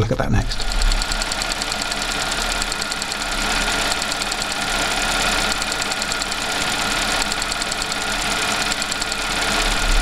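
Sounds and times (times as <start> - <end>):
car engine idling: 0.5 - 10.0.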